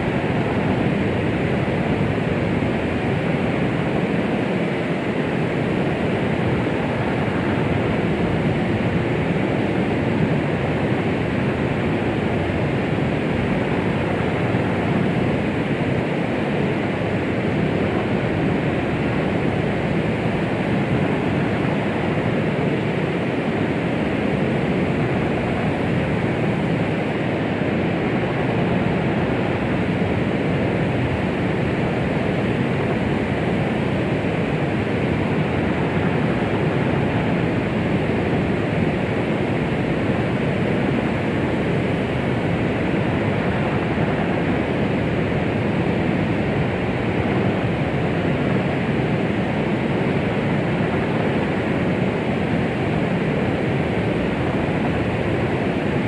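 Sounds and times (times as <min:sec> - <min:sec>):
rushing white noise: 0:00.0 - 0:56.0.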